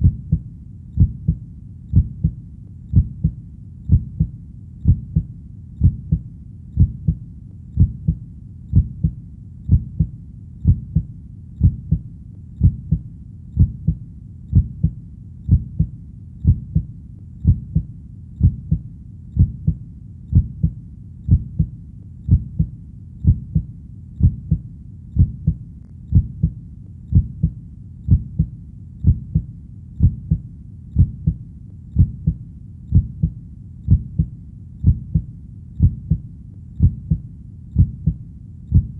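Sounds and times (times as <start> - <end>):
heartbeat: 0.0 - 38.9.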